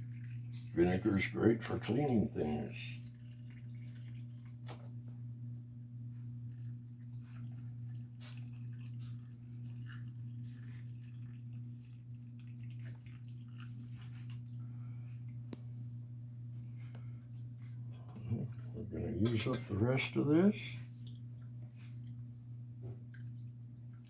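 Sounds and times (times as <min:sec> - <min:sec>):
liquid trickling and dripping: 0:00.0 - 0:05.3, 0:06.0 - 0:24.0
steady low hum: 0:00.0 - 0:24.0.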